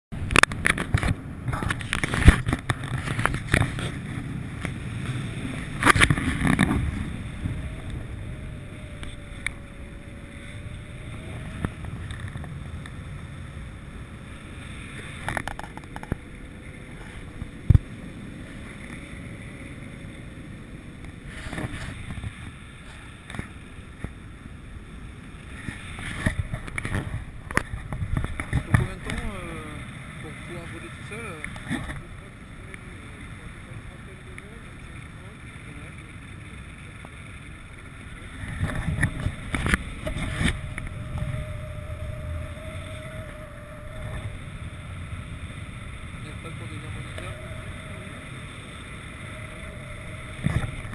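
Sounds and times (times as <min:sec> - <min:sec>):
wind buffeting microphone: 0:00.1 - 0:50.9.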